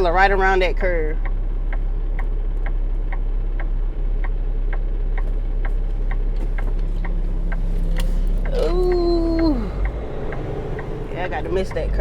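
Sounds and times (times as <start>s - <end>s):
diesel engine drone: 0.0s - 12.0s
turn signal clicking: 0.0s - 12.0s.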